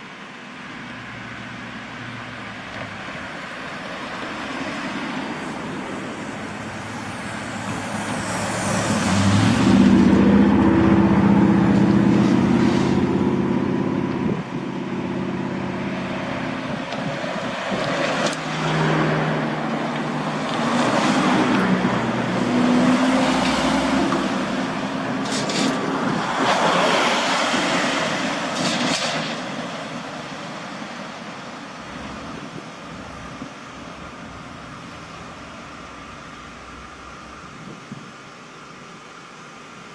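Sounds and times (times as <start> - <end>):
truck diesel engines passing: 0.0 - 39.9.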